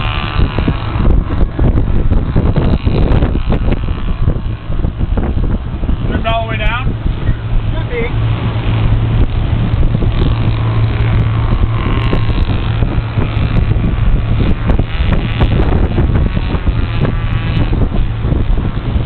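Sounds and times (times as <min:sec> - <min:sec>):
outboard engine drone: 0:00.0 - 0:19.0
wind buffeting microphone: 0:00.0 - 0:19.0.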